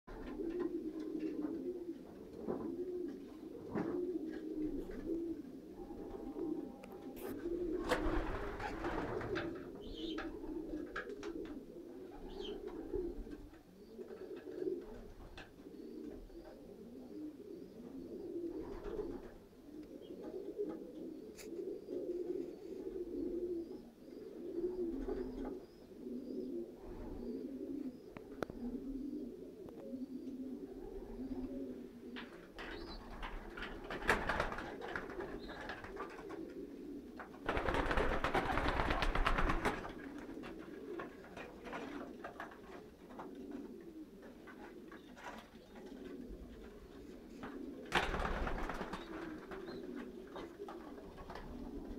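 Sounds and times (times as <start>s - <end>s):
pigeons cooing: 0.1s - 51.9s.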